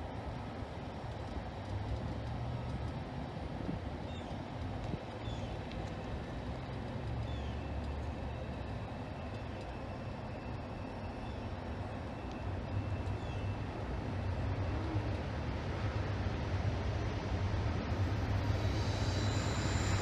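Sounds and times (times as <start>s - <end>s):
distant engines rumbling: 0.2s - 20.0s.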